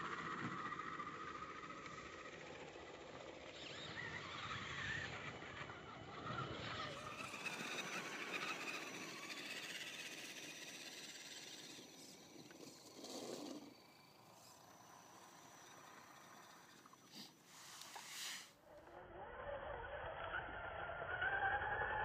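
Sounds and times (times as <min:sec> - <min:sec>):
electric rc car motors whining: 0:00.0 - 0:22.0.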